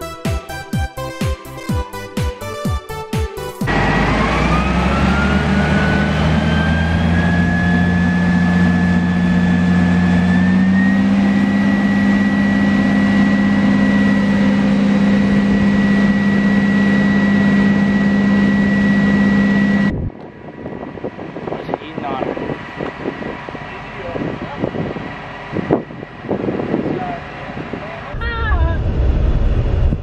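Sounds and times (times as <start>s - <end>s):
diesel engine whine: 3.6s - 30.0s
heavy engine drone: 3.6s - 30.0s.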